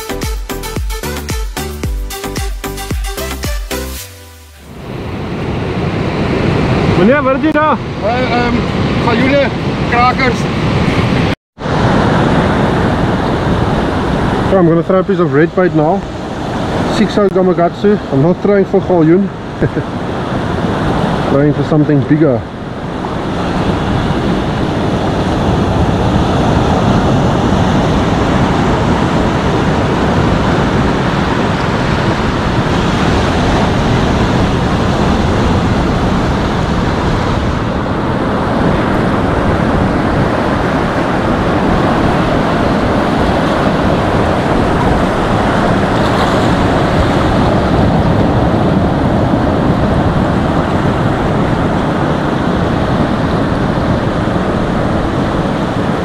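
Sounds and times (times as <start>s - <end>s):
ocean surf against rocky shore: 4.5s - 56.0s
wind buffeting microphone: 4.7s - 56.0s.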